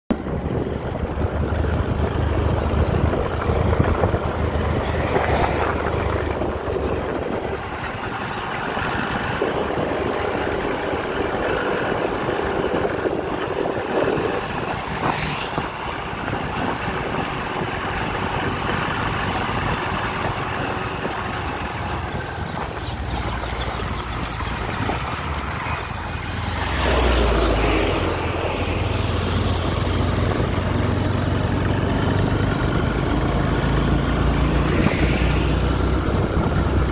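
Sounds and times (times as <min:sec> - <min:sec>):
vehicle engine hum: 0:00.1 - 0:36.9.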